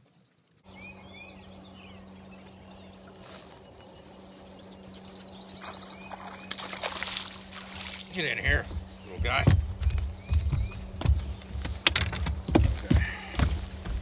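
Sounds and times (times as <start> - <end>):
small birds chirping: 0.0 - 14.0
steady low hum: 0.3 - 14.0.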